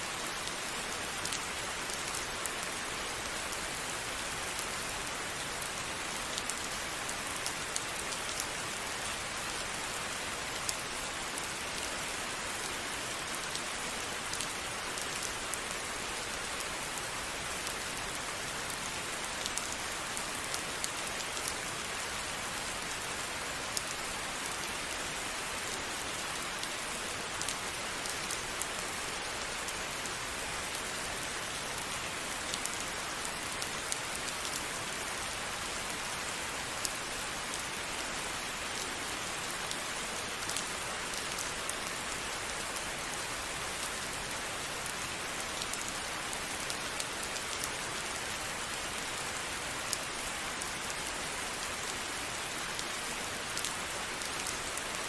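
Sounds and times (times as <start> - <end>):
rain drops ticking on a surface: 0.0 - 55.0.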